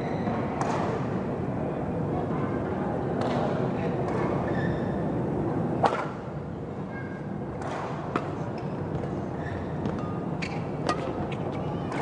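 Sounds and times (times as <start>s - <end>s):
hall background noise: 0.0s - 12.0s.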